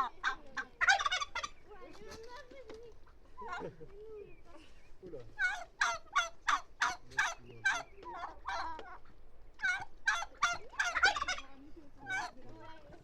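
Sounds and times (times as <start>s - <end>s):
turkey calling: 0.0s - 13.0s.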